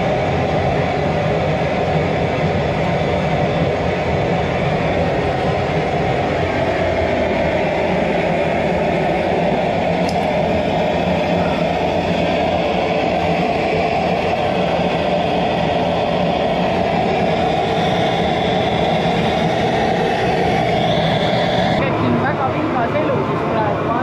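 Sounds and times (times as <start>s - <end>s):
gas torch burner rushing: 0.0s - 24.0s.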